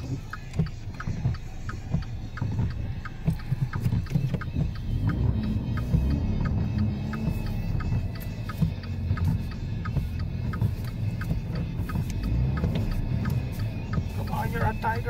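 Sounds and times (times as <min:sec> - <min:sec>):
car engine and tyre rumble: 0:00.0 - 0:15.0
steady ticking: 0:00.0 - 0:15.0
low drone rising in pitch: 0:01.6 - 0:15.0.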